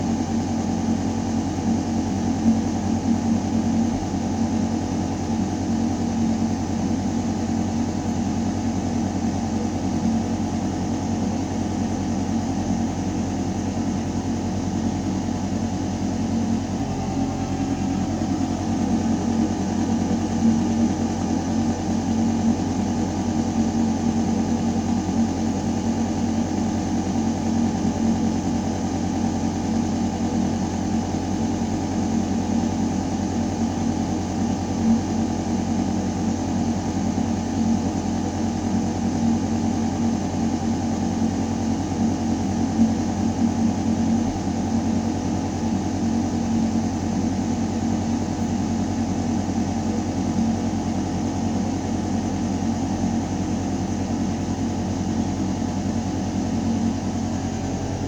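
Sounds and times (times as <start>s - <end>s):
ventilation system humming: 0.0s - 58.0s.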